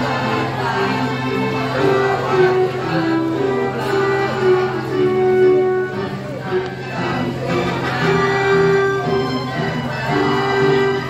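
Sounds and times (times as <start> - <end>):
instrumental accompaniment: 0.0 - 11.0
youth choir singing: 0.0 - 11.0.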